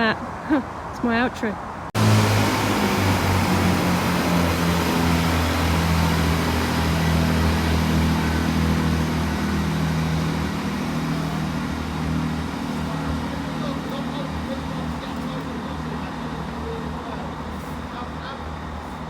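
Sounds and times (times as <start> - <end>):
engine running steadily: 2.0 - 19.0.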